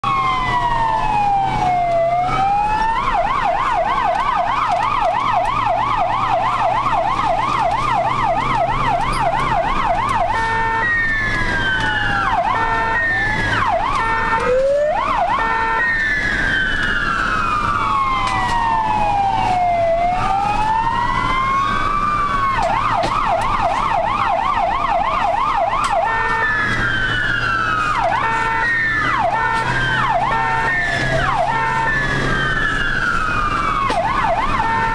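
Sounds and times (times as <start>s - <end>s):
ambulance siren: 0.0s - 34.9s
low vehicle drone: 0.0s - 34.9s.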